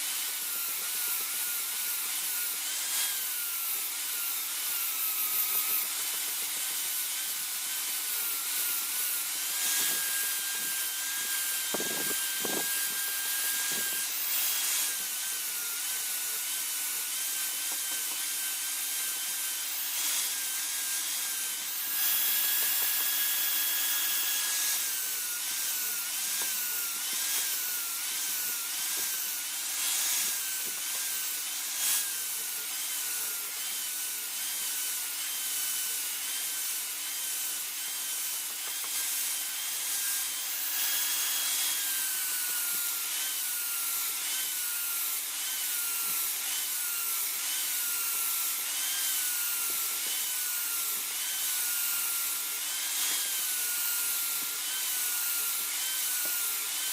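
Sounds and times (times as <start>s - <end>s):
power tool grinding: 0.0s - 56.9s.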